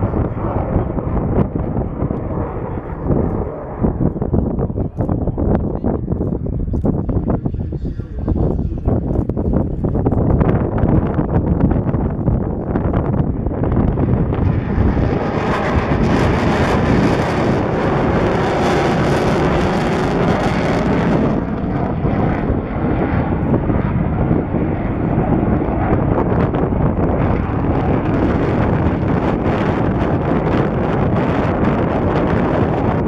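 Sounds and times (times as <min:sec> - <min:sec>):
jet engines roaring: 0:00.0 - 0:33.0
wind buffeting microphone: 0:00.0 - 0:33.0.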